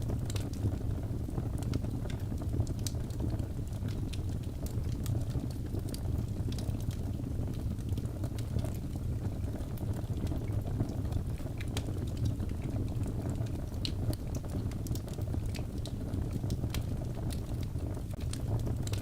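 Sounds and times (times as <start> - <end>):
burning wood crackling and popping: 0.0 - 19.0
fire flames rumbling: 0.0 - 19.0.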